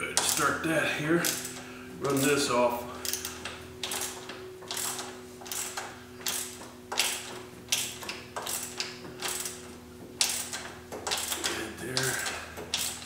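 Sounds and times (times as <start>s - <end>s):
ratchet clicking: 0.2s - 0.6s, 1.2s - 2.4s, 3.0s - 13.0s.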